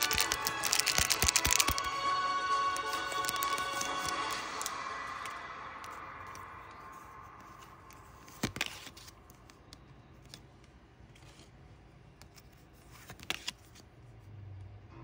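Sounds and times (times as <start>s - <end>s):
trading cards clicking and rustling: 0.0s - 2.0s, 2.8s - 13.8s.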